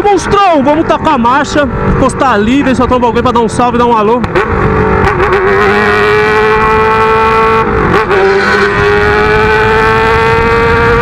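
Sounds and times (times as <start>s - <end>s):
motorcycle engine through open exhaust: 0.0s - 11.0s.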